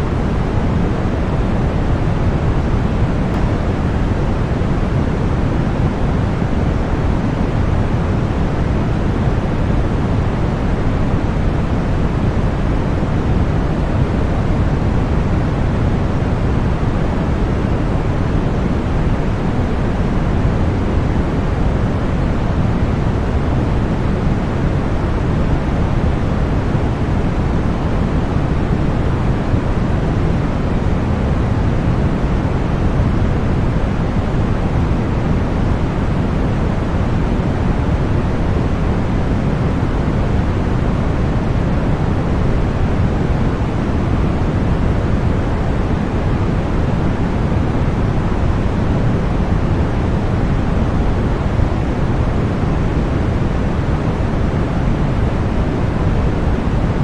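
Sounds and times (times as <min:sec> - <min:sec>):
deep rumbly white noise: 0:00.0 - 0:57.0.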